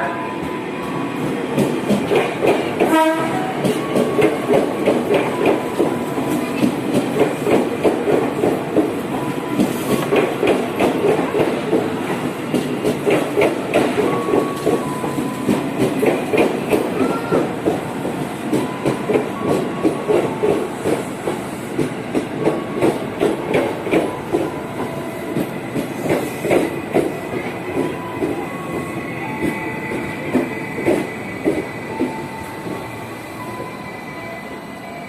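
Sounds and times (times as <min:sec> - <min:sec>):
train wheels clacking: 0:00.3 - 0:34.0.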